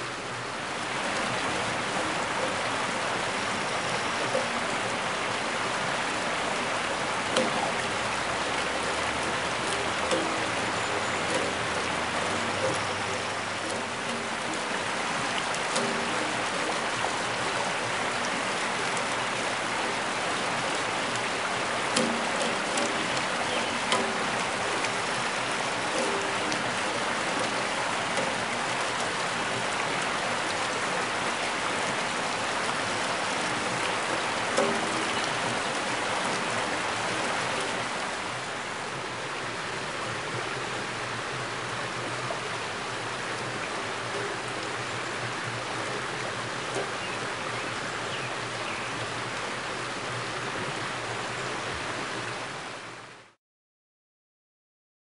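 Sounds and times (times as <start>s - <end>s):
water splashing onto water wheel: 0.0s - 53.3s.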